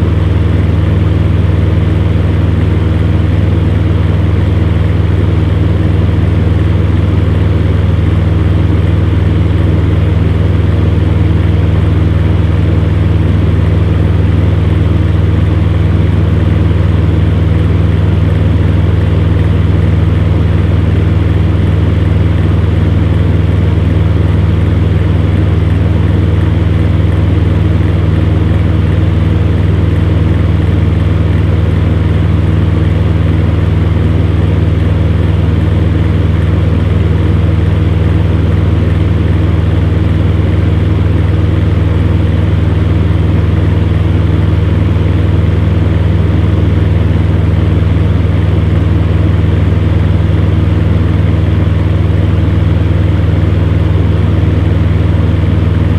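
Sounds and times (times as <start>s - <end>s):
fan heater humming and whirring: 0.0s - 55.9s.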